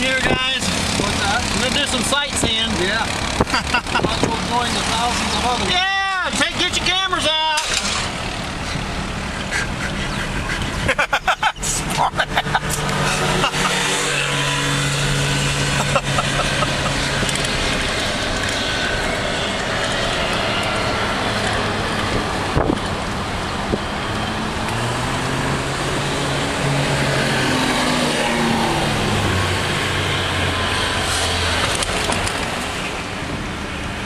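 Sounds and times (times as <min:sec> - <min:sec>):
car engine hum: 0:00.0 - 0:34.0.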